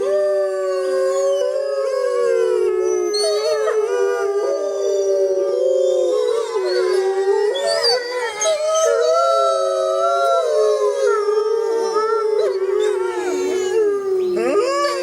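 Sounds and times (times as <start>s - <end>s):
wolves howling: 0.0s - 15.0s.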